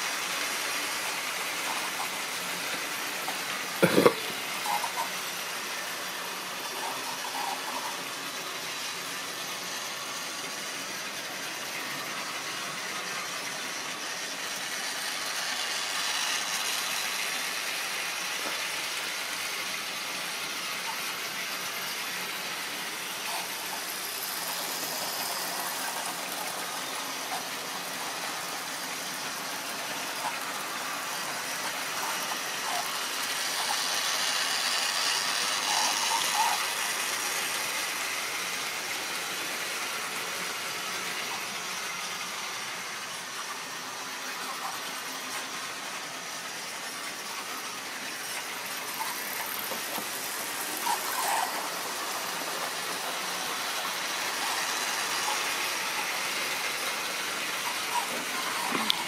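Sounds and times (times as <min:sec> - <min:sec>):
model train motor whirring: 0:00.0 - 0:59.0.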